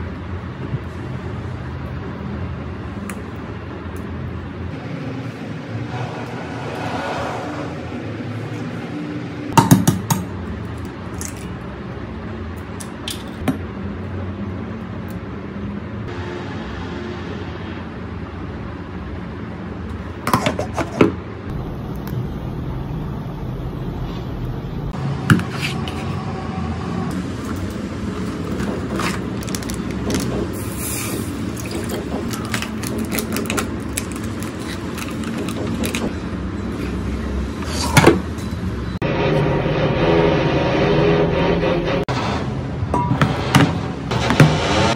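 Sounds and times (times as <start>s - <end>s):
construction and traffic rumble: 0.0s - 44.9s.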